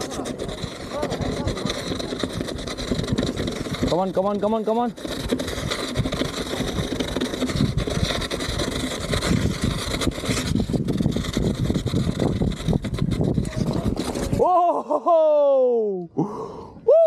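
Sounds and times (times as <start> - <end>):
bike tyres rolling on asphalt: 0.0 - 14.4
wind on camera microphone: 0.0 - 14.7.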